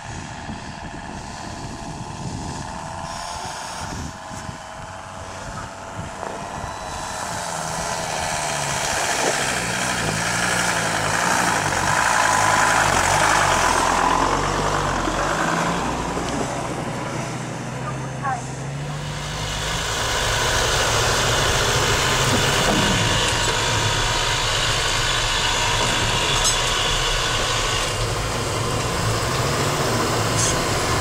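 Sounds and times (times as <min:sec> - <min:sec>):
steady high whine: 0:00.0 - 0:31.0
van engine under load: 0:00.0 - 0:31.0.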